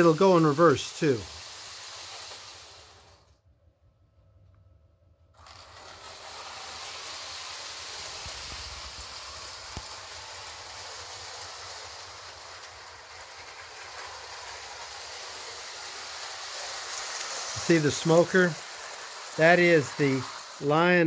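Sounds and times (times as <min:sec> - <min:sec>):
model train running on track: 0:00.0 - 0:03.3, 0:05.4 - 0:21.0.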